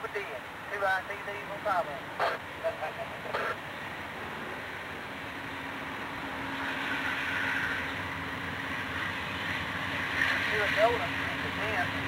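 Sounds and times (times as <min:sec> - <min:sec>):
diesel locomotive engine hum: 0:00.0 - 0:12.0
train rumble: 0:00.0 - 0:12.0.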